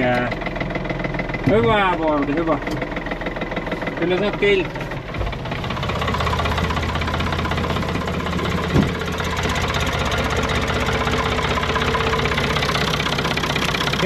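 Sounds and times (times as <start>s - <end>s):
diesel tractor idling: 0.0s - 14.0s.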